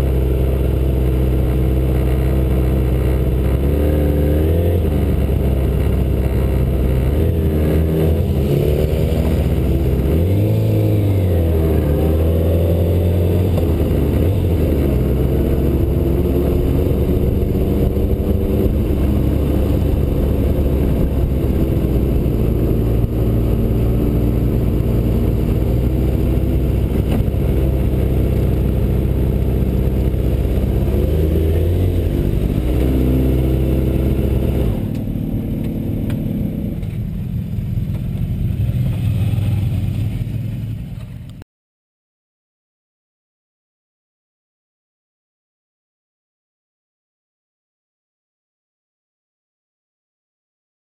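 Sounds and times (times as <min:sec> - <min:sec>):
motorcycle engine revving: 0:00.0 - 0:41.4.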